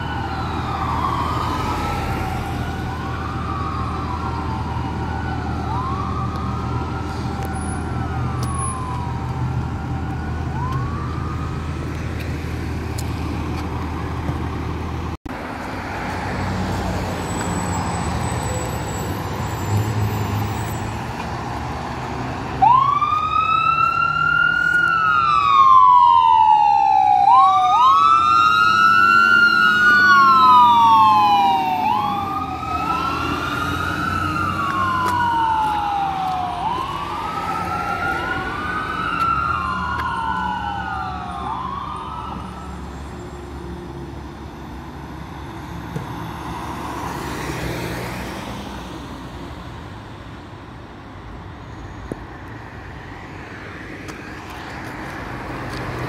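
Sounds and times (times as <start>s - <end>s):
fire engine siren wailing: 0.0s - 15.2s, 17.0s - 50.4s.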